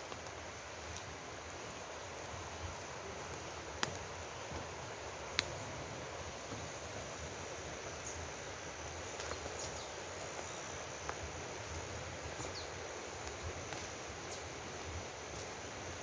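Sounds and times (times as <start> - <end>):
mountain stream running: 0.0 - 16.0.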